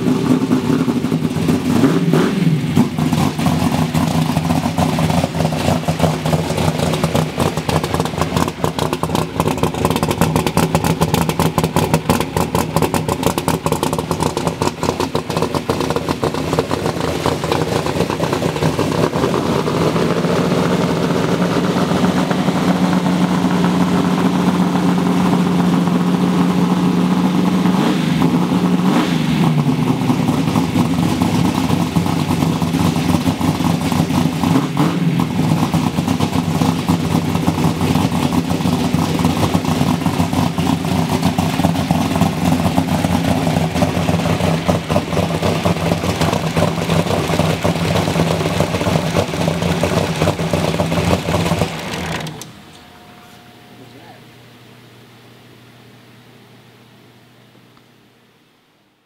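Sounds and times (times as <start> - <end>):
car engine idling: 0.0 - 54.4.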